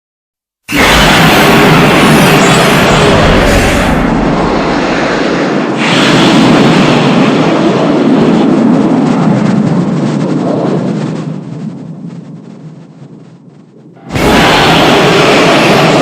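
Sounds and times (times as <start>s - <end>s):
heavy rumbling monster sound effect: 0.7s - 16.0s.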